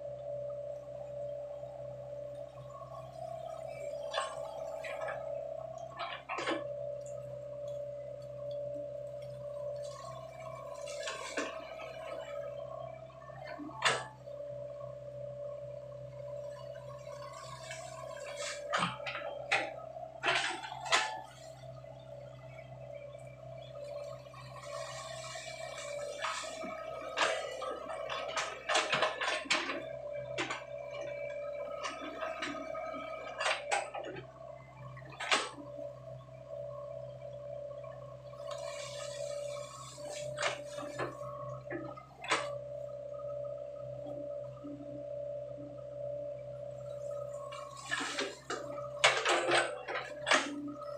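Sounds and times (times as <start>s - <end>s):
excavator engine and hydraulic whine: 0.0s - 50.9s.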